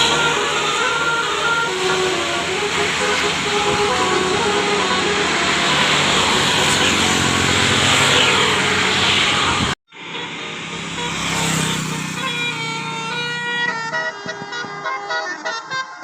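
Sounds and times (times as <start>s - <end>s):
bus passing by: 0.0s - 16.0s
multi-note bus horn: 0.0s - 16.0s.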